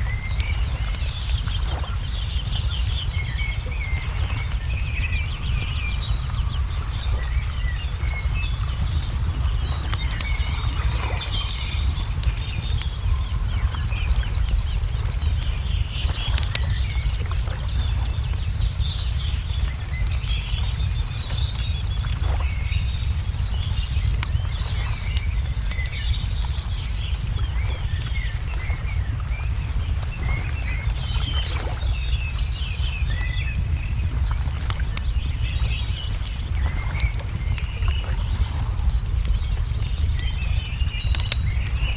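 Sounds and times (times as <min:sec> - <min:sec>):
birds chirping and twittering: 0:00.0 - 0:41.9
lake water lapping: 0:00.0 - 0:41.9
wood fire crackling and popping: 0:00.0 - 0:41.9.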